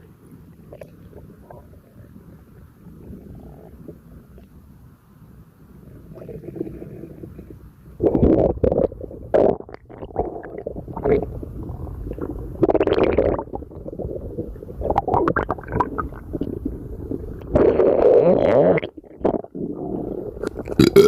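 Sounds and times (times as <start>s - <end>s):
stomach gurgling: 0.6s - 4.6s, 5.9s - 21.0s.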